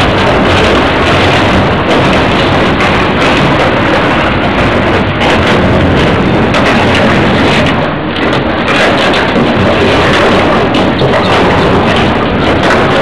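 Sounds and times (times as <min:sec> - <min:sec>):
excavator running hard: 0:00.0 - 0:13.0.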